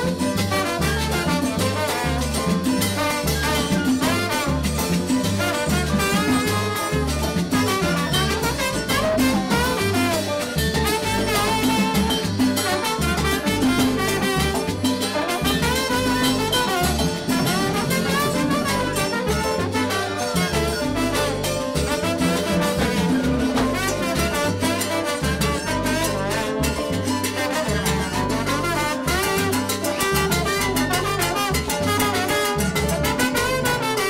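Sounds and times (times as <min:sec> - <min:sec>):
salsa band playing: 0:00.0 - 0:34.0
trombone: 0:00.0 - 0:34.0.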